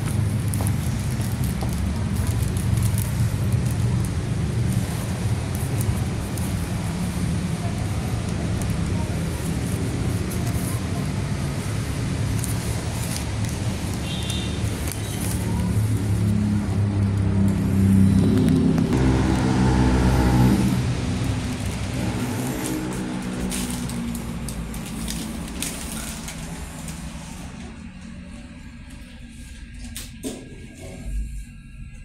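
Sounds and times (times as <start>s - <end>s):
vehicle engine running: 0.0s - 29.3s.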